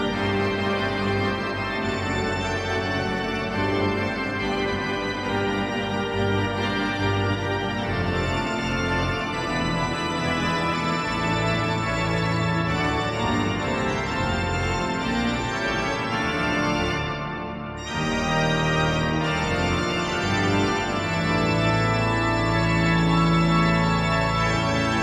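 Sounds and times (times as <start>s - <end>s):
pipe organ playing sustained chords: 0.0s - 25.0s.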